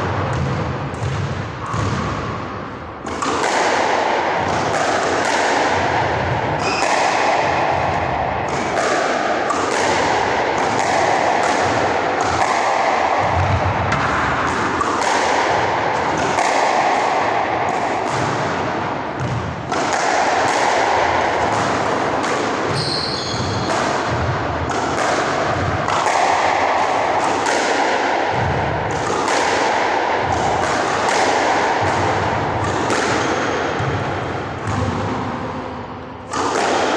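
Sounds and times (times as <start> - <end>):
squash ball hitting wall: 0.0 - 36.9.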